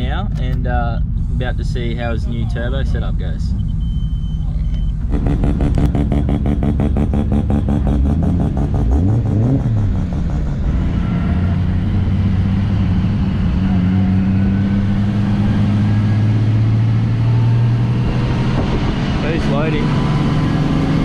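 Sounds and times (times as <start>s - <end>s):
turbocharged car engine running: 0.0s - 21.0s.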